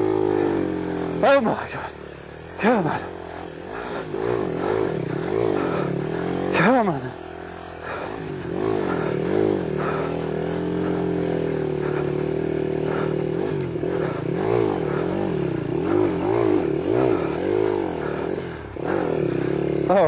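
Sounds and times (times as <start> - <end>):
small engine revving: 0.0 - 20.0.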